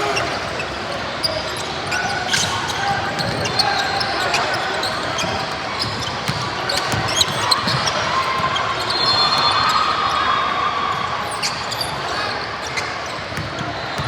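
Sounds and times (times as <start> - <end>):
spectators chattering: 0.0 - 14.0.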